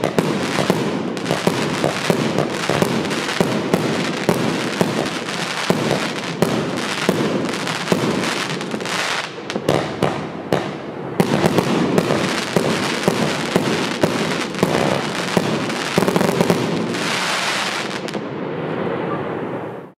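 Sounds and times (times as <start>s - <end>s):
fireworks launching and bursting: 0.0s - 19.0s.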